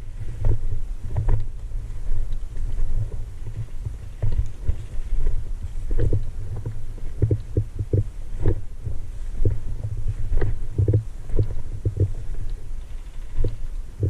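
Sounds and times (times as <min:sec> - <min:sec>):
low rumbling: 0:00.0 - 0:14.0
dull thumps of jostled camera: 0:00.2 - 0:14.0.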